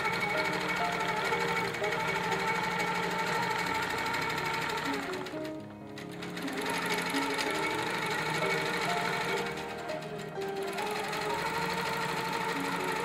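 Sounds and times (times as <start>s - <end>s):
background music: 0.0s - 13.0s
quilting machine stitching: 0.0s - 13.0s.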